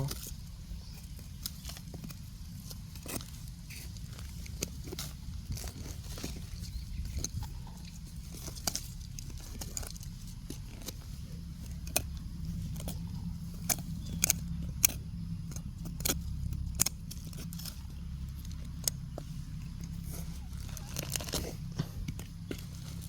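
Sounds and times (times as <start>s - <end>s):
steady low rumble: 0.0s - 23.0s
wood cracking and clicking: 0.0s - 23.0s.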